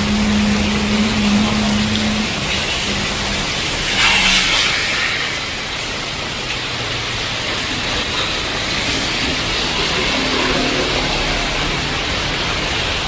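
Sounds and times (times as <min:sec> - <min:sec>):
heavy rain pouring: 0:00.0 - 0:13.0
low engine-like hum: 0:00.0 - 0:13.0.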